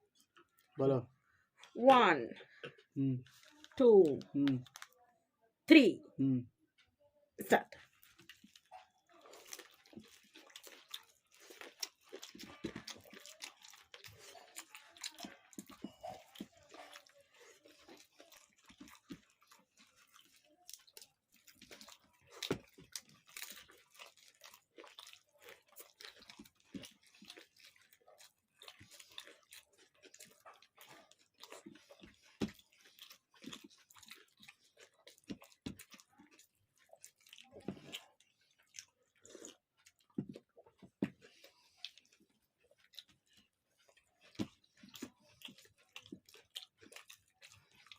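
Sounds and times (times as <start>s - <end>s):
chewing and crunching food: 0.0s - 5.3s, 6.6s - 47.9s.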